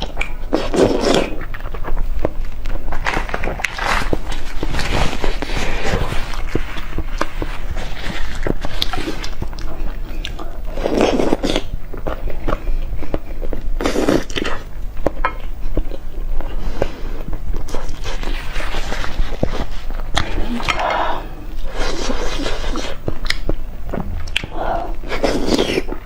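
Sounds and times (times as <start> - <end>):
person chewing: 0.0 - 26.0.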